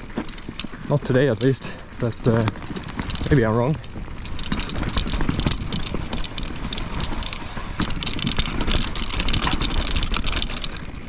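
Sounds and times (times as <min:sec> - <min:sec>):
mountain bike rattling: 0:00.0 - 0:11.0.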